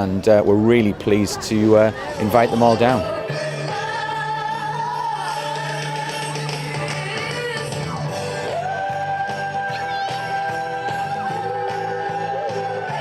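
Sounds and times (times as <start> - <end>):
singing with long held notes: 2.0 - 13.0.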